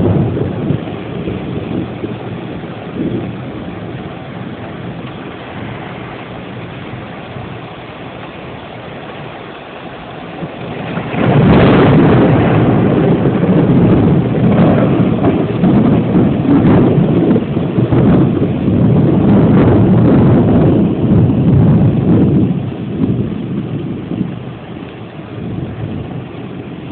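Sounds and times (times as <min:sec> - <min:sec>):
low rumble of thunder: 0:00.0 - 0:26.9
rain hissing: 0:00.0 - 0:26.9.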